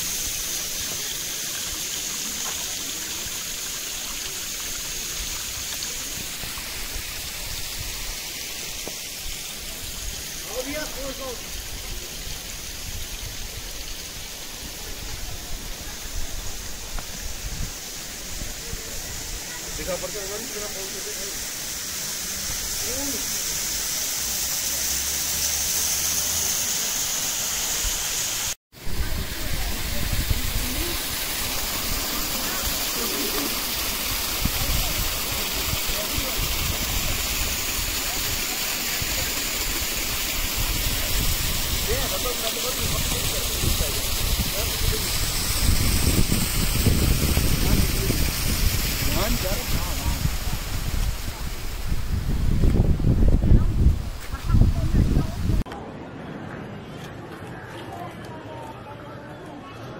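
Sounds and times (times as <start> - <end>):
stream trickling among rocks: 0.0 - 18.1, 21.6 - 27.5, 29.0 - 55.5.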